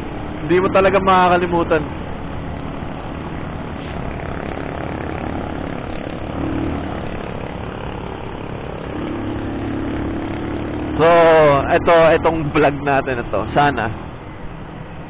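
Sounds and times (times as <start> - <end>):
motorcycle engine drone: 0.0 - 15.0
road and traffic noise: 0.0 - 15.0.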